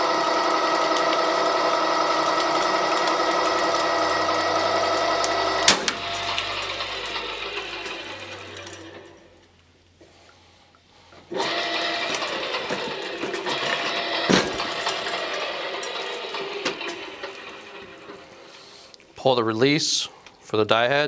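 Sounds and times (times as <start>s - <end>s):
pipe threading machine whirring: 0.0s - 9.6s, 11.1s - 19.0s.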